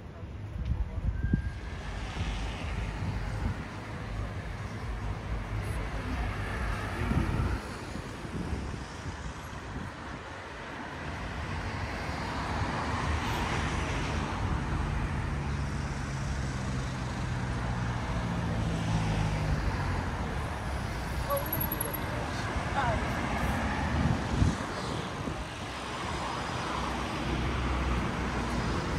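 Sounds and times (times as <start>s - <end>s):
cars passing: 0.0s - 28.9s.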